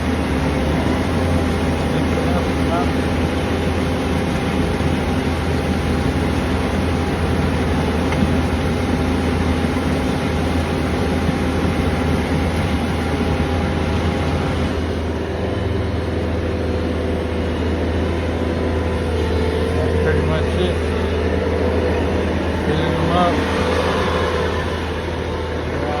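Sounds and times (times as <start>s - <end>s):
diesel truck engine running: 0.0s - 26.0s
machinery hum: 0.0s - 26.0s.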